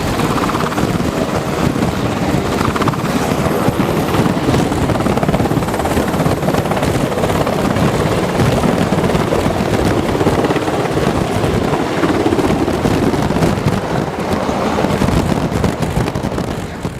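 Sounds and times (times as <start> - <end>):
helicopter rotor and turbine noise: 0.0 - 16.9.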